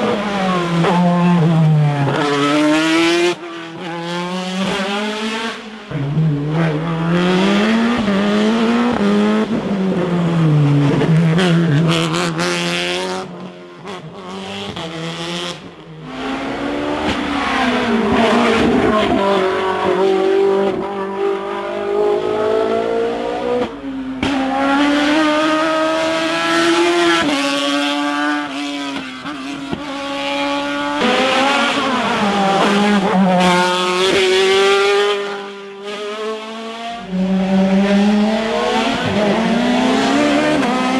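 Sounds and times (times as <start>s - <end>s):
race car engines revving: 0.0s - 40.9s.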